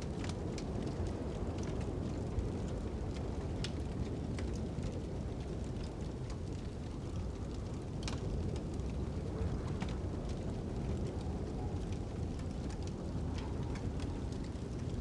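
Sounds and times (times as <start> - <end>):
fire crackling and popping: 0.0 - 15.0
low wind rumble: 0.1 - 15.0.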